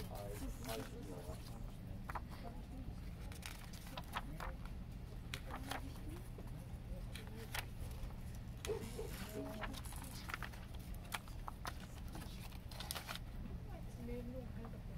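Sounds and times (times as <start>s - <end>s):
paper pages rustling: 0.0s - 13.4s
steady low hum: 0.0s - 14.9s.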